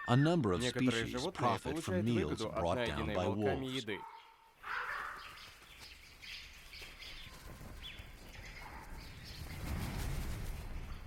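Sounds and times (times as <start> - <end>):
birds calling: 0.0 - 9.8.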